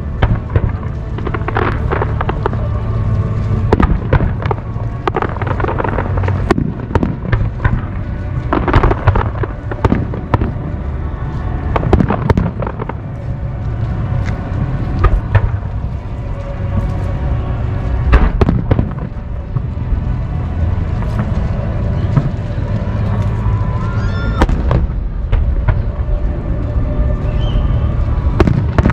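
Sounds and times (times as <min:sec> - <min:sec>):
fireworks bangs and crackles: 0:00.0 - 0:28.9
low rumble: 0:00.0 - 0:28.9
music playing: 0:00.0 - 0:28.9.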